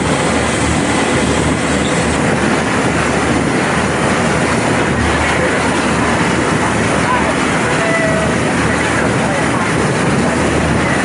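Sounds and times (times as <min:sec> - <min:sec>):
boat engine running: 0:00.0 - 0:11.0
water rushing: 0:00.0 - 0:11.0
wind noise: 0:00.0 - 0:11.0.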